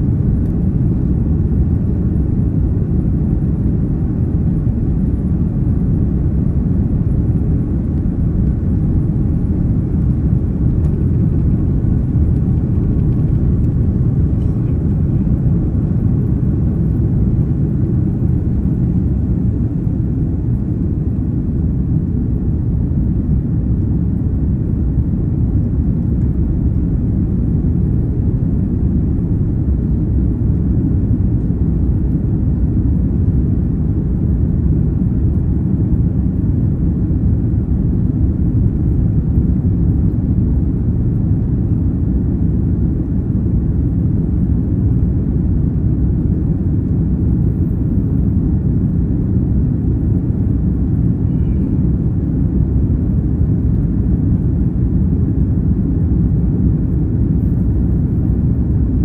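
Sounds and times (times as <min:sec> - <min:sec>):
jet engines deep rumble: 0:00.0 - 0:59.0.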